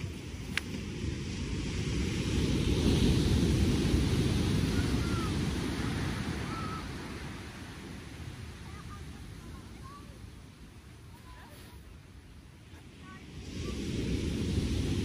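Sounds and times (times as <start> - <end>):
surf rushing on beach: 0.0 - 15.0
wind buffeting microphone: 0.0 - 15.0.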